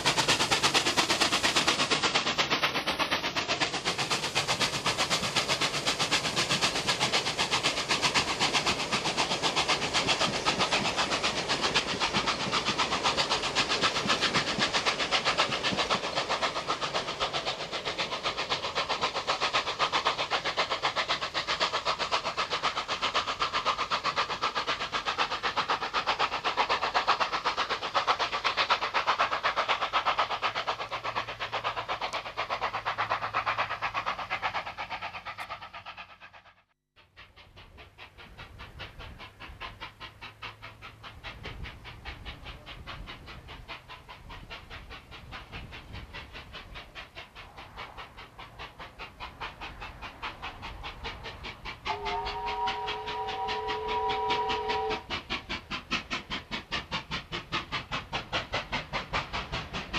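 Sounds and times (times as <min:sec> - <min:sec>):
carriages clattering on rails: 0:00.0 - 0:36.5, 0:37.1 - 0:59.9
hissing steam: 0:00.0 - 0:59.9
steam locomotive exhaust beats: 0:00.0 - 0:59.9.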